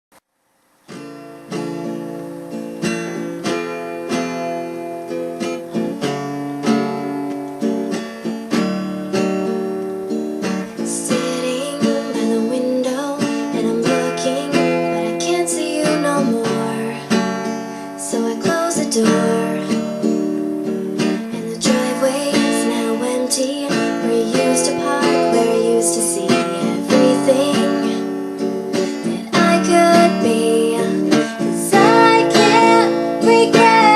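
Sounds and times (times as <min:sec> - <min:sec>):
acoustic guitar strumming chords: 0:00.7 - 0:33.9.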